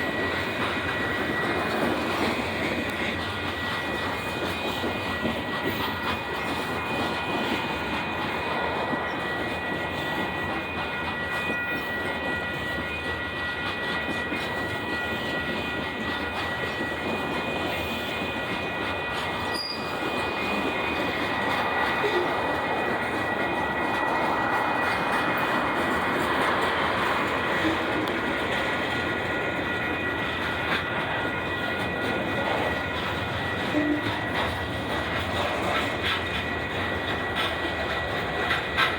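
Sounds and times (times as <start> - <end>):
high wheel squeal: 0.0 - 38.9
train wheels rumbling on rail: 0.0 - 38.9.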